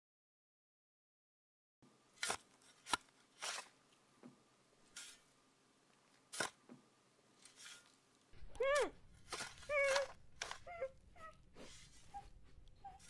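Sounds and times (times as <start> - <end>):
faint steady hum: 1.8 - 13.0.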